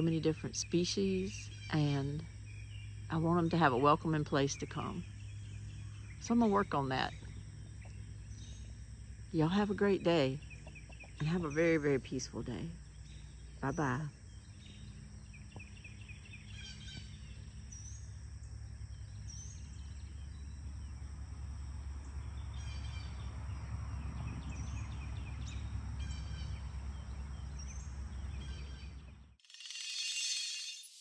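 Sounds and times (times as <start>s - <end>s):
songbirds chirping and trilling: 0.0s - 29.4s.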